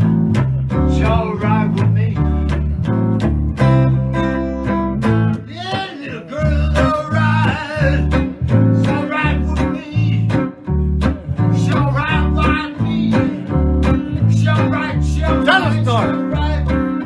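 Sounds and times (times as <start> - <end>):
acoustic guitar and bass shuffle: 0.0 - 17.0.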